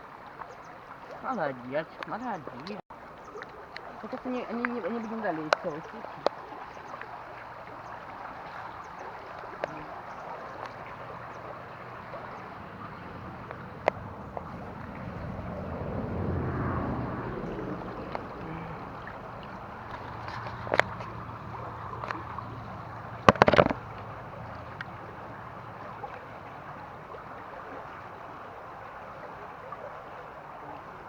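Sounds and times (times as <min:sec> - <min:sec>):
stream water running: 0:00.0 - 0:31.0.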